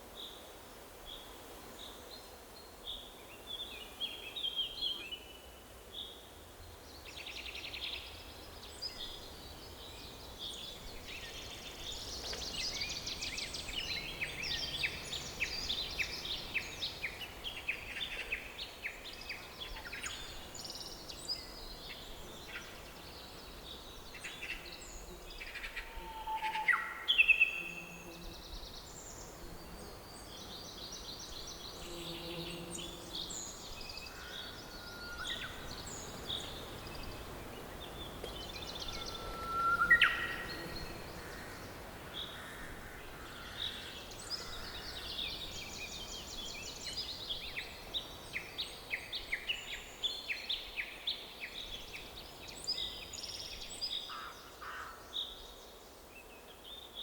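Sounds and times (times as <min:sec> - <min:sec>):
faint forest background: 0:00.0 - 0:57.0
songbirds singing and chirping: 0:01.0 - 0:57.0.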